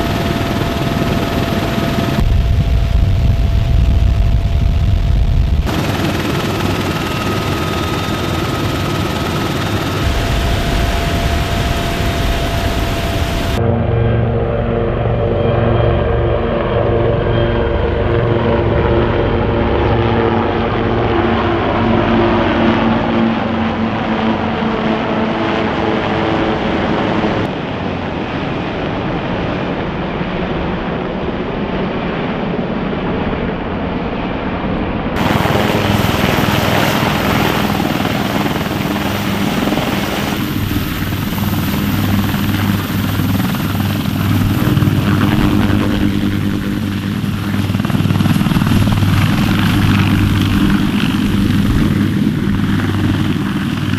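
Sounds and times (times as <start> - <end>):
helicopter rotor beats: 0.0 - 28.4, 35.2 - 53.9
helicopters droning overhead: 0.0 - 53.9.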